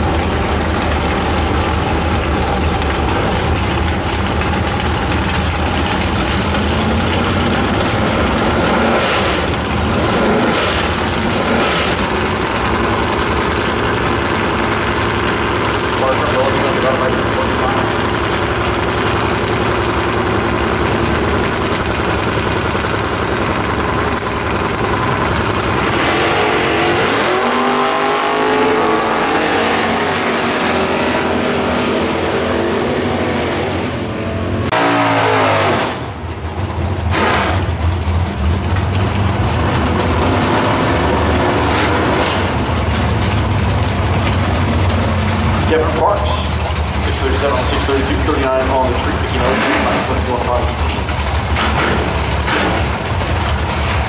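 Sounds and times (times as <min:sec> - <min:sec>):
drag cars accelerating: 0:00.0 - 0:54.0
engine rumbling low: 0:00.0 - 0:54.0.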